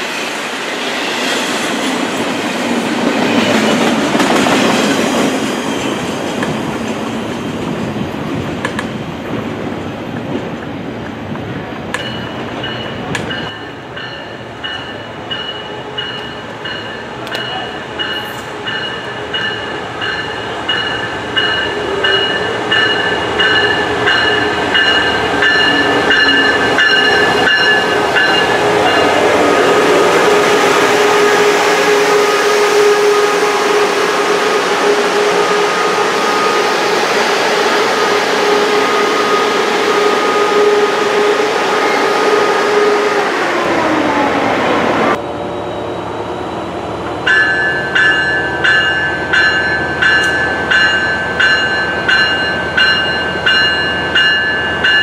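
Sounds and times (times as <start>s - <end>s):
train running past: 0.0s - 55.0s.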